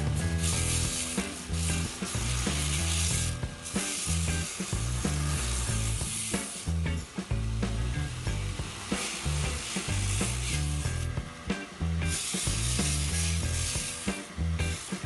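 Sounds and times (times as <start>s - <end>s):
sandpaper sanding wood: 0.0s - 11.1s, 12.1s - 15.0s
background music with bass line: 0.0s - 15.0s.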